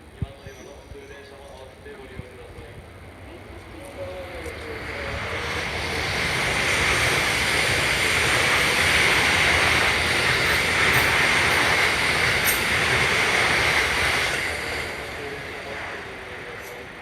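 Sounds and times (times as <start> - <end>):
train wheel and rail noise: 0.0 - 17.0.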